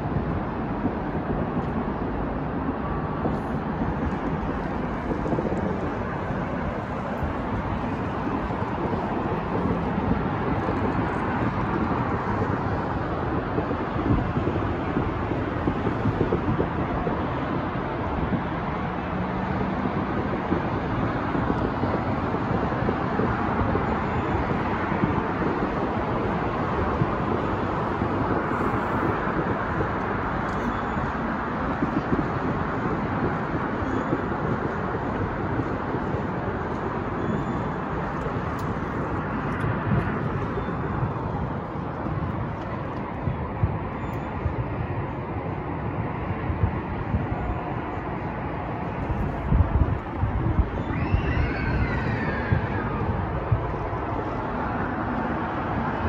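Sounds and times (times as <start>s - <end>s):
city traffic rumble: 0.0s - 56.0s.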